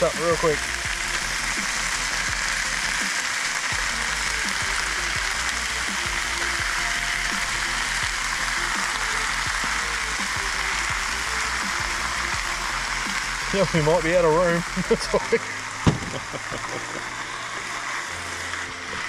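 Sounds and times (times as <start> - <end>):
onions sizzling in a pot: 0.0 - 19.0.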